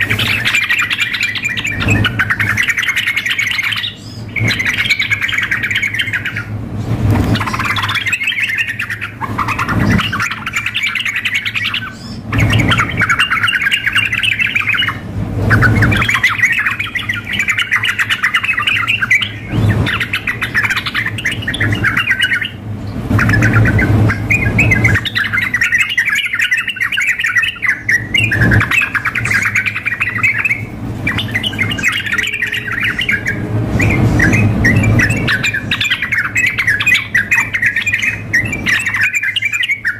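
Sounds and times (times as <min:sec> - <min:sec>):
bulbuls calling and singing: 0:00.0 - 0:39.9
low steady hum: 0:00.0 - 0:39.9.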